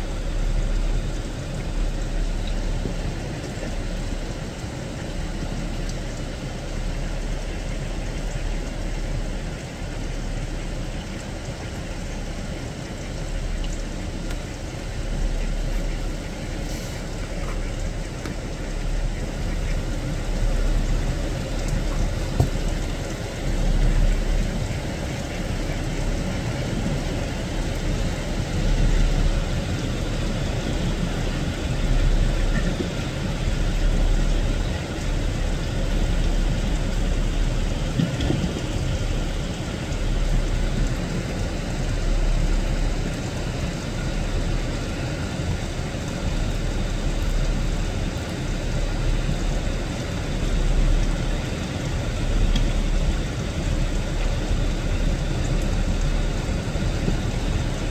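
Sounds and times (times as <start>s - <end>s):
rain falling steadily: 0.0s - 57.9s.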